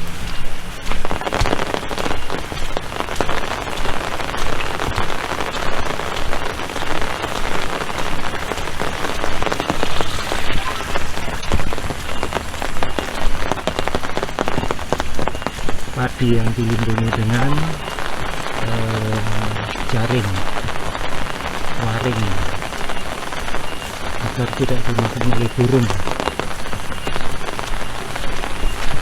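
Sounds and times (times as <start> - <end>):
heavy rain: 0.0 - 29.0
raindrops hitting close: 0.0 - 29.0.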